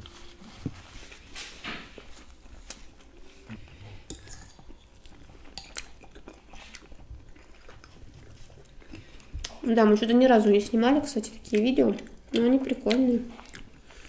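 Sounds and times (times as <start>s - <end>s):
soft chewing: 0.0s - 10.6s, 11.2s - 14.0s.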